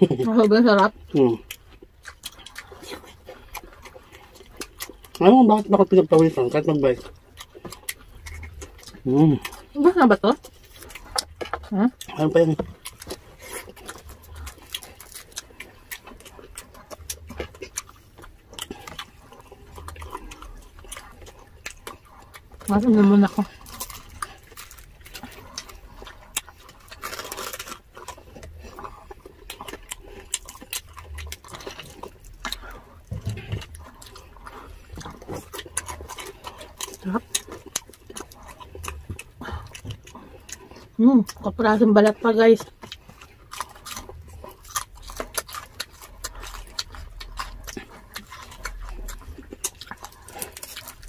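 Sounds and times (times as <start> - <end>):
chewing crispy food: 0.0 - 51.0.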